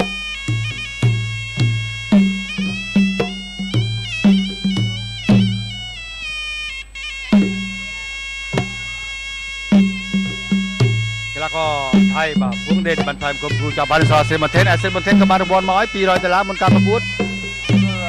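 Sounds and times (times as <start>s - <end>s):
reed oboe melody: 0.0s - 18.0s.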